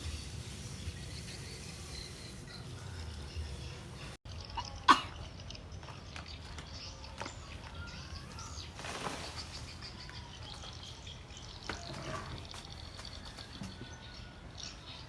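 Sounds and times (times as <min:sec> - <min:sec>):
faint birds chirping: 0:00.5 - 0:15.0.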